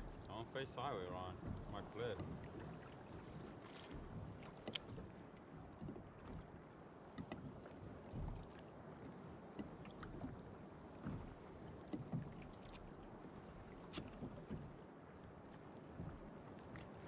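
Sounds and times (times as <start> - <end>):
sea wash: 0.0 - 17.0
water lapping against kayak hull: 0.0 - 17.0.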